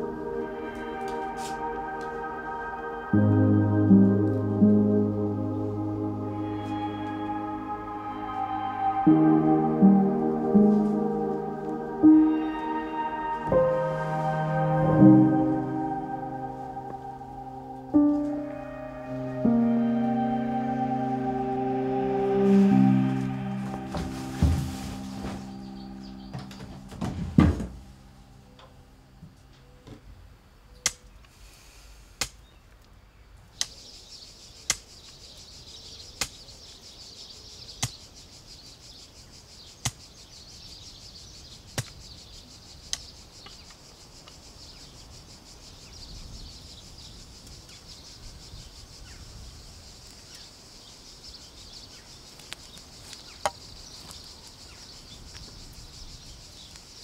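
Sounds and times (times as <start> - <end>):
high insect drone: 0.0 - 29.4, 33.8 - 57.0.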